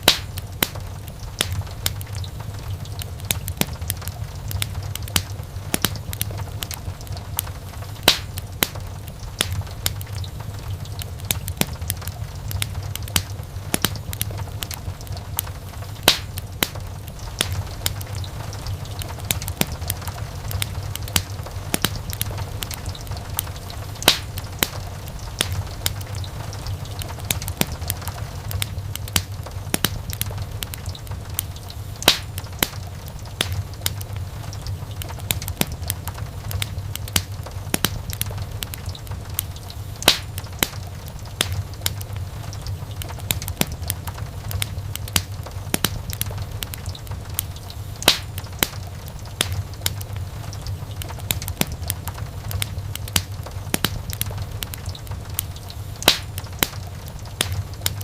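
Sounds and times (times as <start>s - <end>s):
loud fire pops: 0.0s - 58.0s
wood fire crackling: 0.0s - 58.0s.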